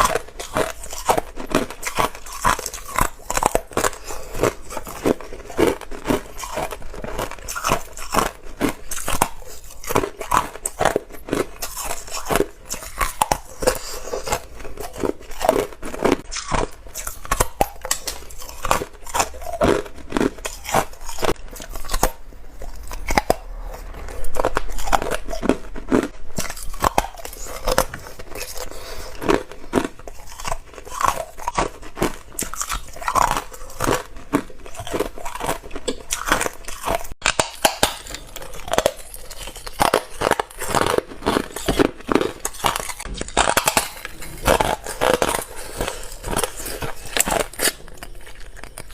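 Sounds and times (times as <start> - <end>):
ice crunching being chewed: 0.0 - 48.9.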